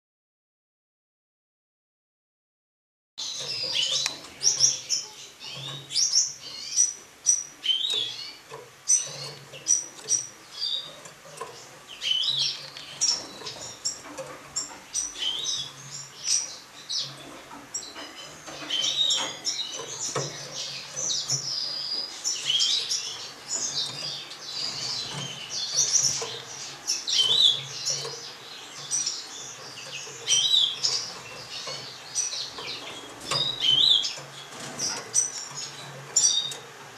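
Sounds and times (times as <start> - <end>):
finches chirping: 3.2 - 36.9.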